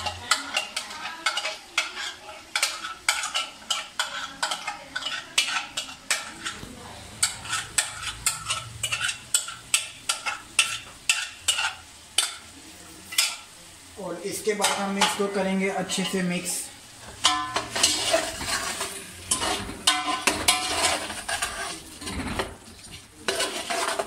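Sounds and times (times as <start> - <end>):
metal spoon scraping bowl: 0.0 - 12.4, 17.1 - 24.0.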